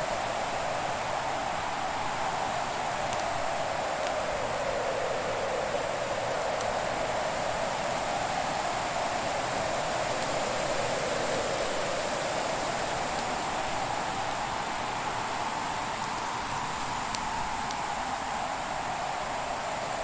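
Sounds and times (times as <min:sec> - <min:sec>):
faint fire crackles: 0:00.0 - 0:20.0.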